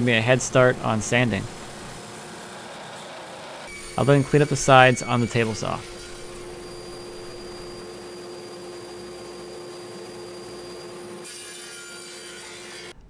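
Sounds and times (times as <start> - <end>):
table saw running: 0.0 - 13.0.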